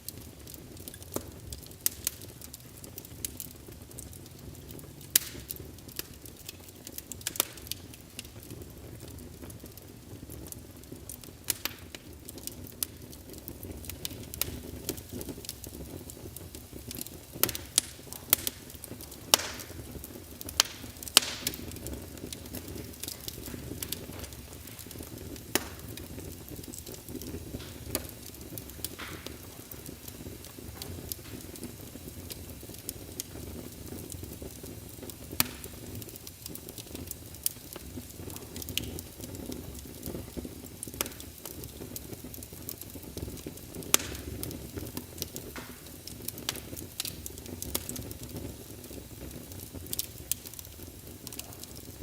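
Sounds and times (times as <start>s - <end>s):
logs crackling and popping: 0.0s - 52.0s
low rumble of flames: 0.0s - 52.0s.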